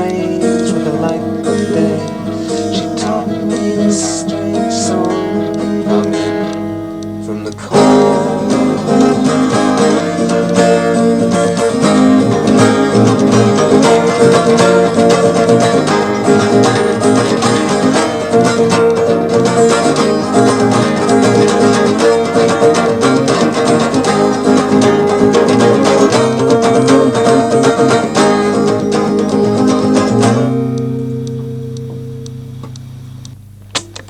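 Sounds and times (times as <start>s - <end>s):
twelve-string guitar strumming chords: 0.0s - 34.0s.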